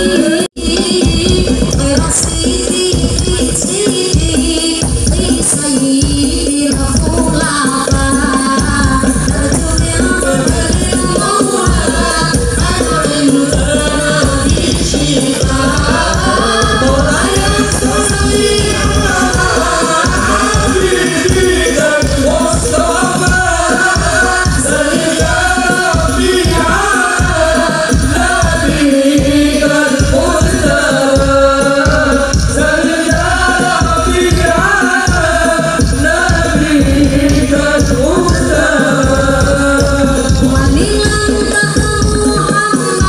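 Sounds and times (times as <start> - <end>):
quick steady drum beat: 0.0 - 43.0
woman singing devotional song: 0.0 - 43.0.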